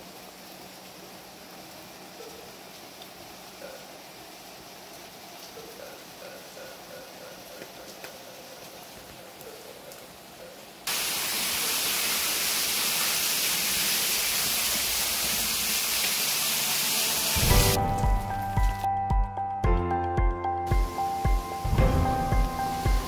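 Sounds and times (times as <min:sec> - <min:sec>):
heavy rain pouring: 0:00.0 - 0:18.9, 0:20.7 - 0:23.0.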